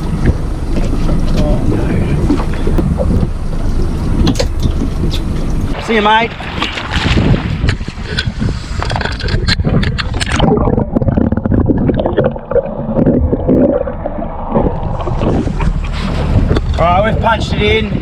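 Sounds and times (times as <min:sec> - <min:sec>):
low steady rumble: 0:00.0 - 0:18.0
water splashing against hull: 0:00.0 - 0:18.0
wind on microphone: 0:00.0 - 0:18.0.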